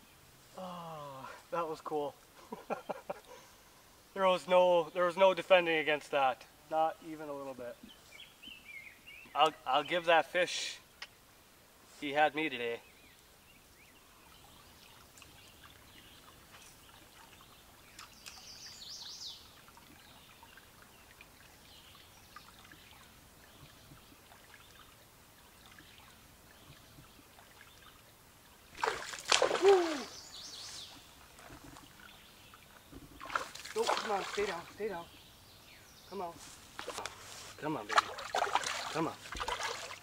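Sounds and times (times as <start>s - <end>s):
river water trickling: 0.0s - 40.0s.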